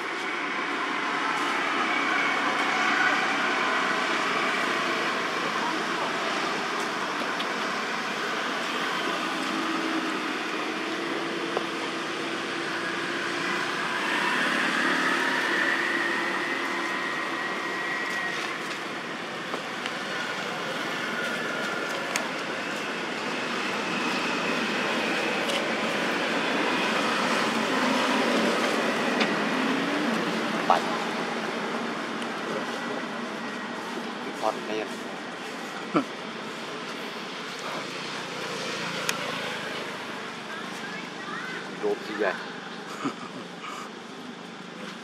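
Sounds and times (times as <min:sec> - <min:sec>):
motorbike engines passing: 0:00.0 - 0:45.0
road traffic noise: 0:00.0 - 0:45.0.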